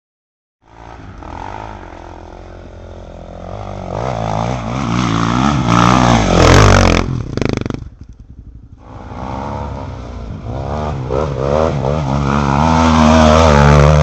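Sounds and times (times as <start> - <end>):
dirt bike engine revving: 0.7 - 14.0.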